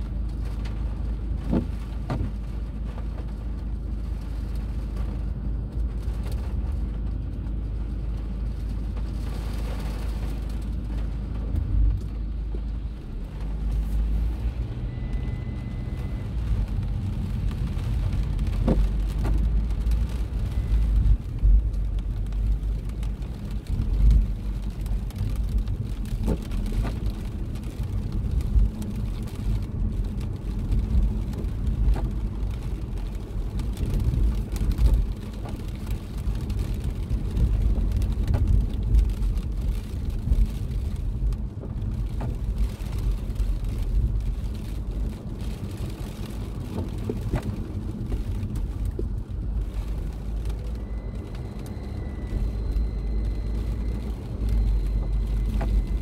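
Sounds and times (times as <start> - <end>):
car driving on wet road: 0.0 - 56.0
rain tapping on windscreen: 0.0 - 56.0.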